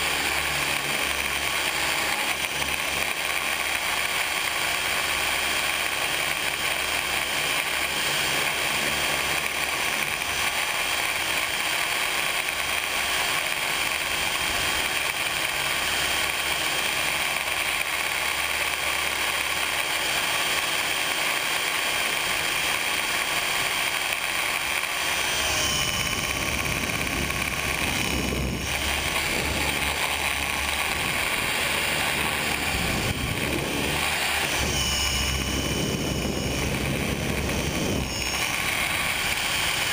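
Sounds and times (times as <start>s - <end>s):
model helicopter motor whine: 0.0s - 39.9s.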